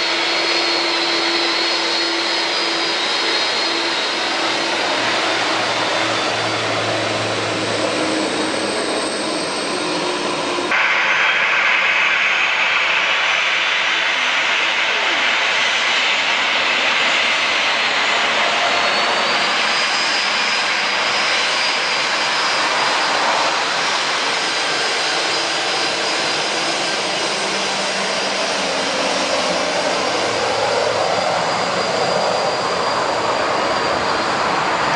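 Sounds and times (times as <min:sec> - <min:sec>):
jet engines roaring with whine: 0:00.0 - 0:34.9.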